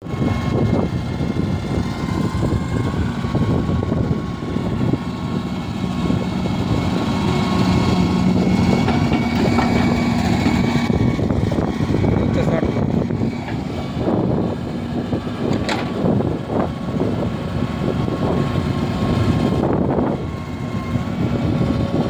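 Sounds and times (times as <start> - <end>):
excavator diesel engine whine: 0.0 - 22.0.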